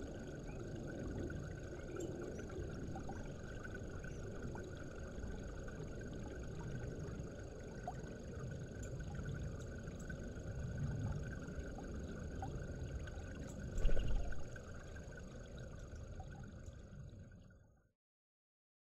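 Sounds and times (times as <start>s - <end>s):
low outdoor rumble: 0.0s - 17.2s
faint constant hum: 0.0s - 17.9s.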